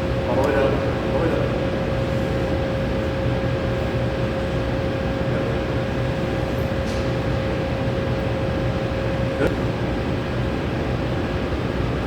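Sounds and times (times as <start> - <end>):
mid-pitched machinery hum: 0.0 - 12.0.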